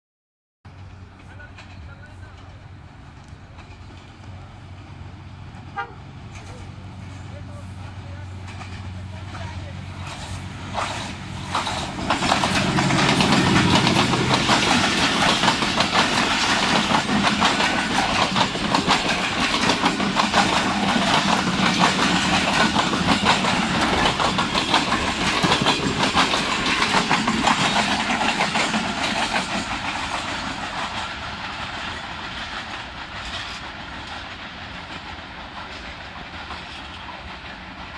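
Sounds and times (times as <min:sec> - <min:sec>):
diesel locomotive engine: 0:00.7 - 0:37.9
train wheels clicking over rail joints: 0:00.7 - 0:37.9.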